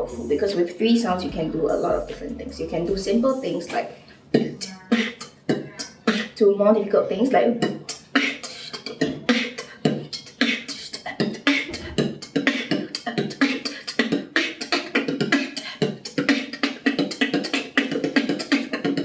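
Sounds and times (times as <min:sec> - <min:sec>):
beatboxing: 0:00.0 - 0:06.4, 0:07.3 - 0:19.0.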